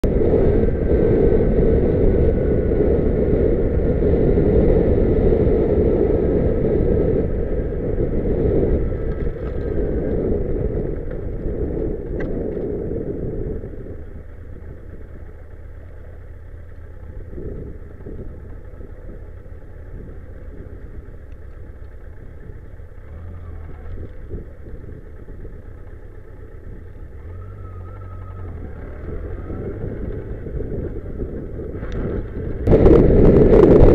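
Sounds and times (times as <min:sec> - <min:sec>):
car road and engine noise: 0:00.0 - 0:33.9.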